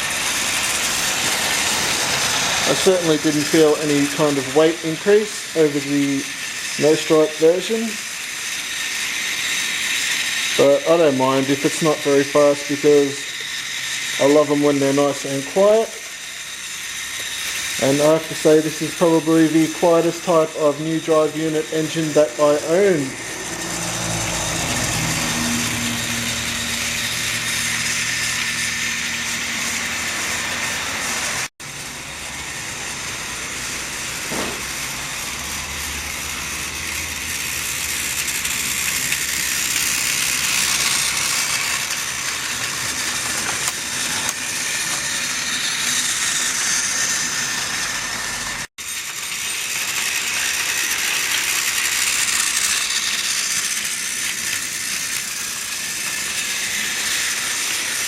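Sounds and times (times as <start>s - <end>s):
toy train electric motor whirring: 0.0s - 58.0s
wheels rattling over plastic track: 0.0s - 58.0s.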